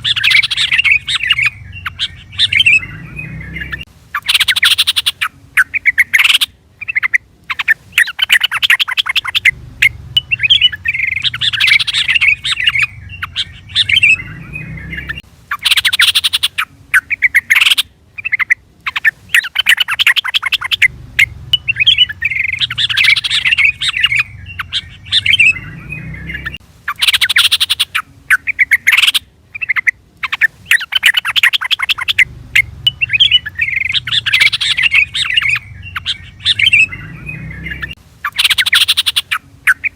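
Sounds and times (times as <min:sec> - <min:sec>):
bird bubbly chattering calls: 0:00.0 - 0:39.9.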